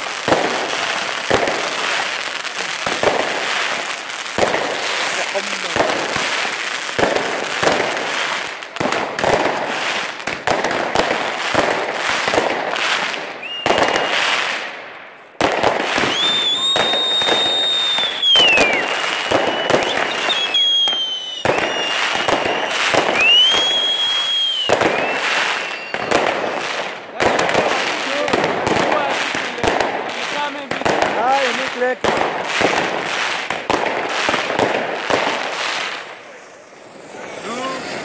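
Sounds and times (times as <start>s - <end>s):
firecrackers banging and crackling: 0.0s - 38.0s
whistling fireworks: 0.0s - 38.0s.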